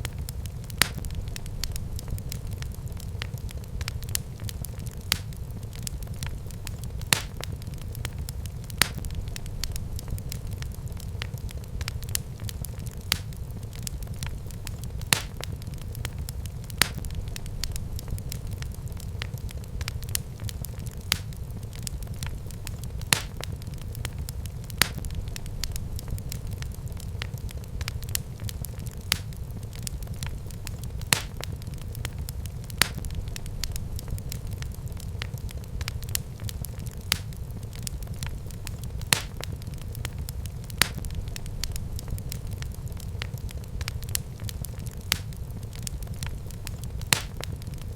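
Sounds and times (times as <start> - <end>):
fire crackling and popping: 0.0 - 47.9
wood fire rumbling: 0.0 - 47.9.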